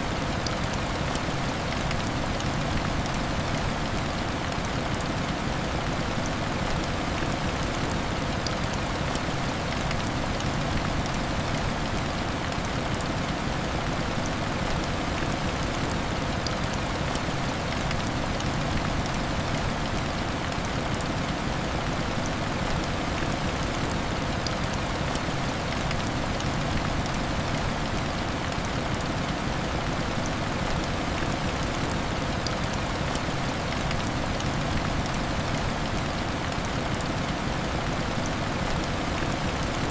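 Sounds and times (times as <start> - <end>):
raindrop ticks: 0.0 - 39.9.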